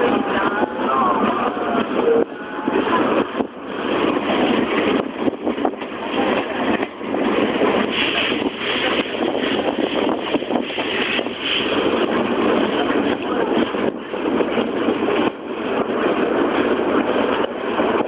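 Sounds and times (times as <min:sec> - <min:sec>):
steam train running: 0:00.0 - 0:18.0.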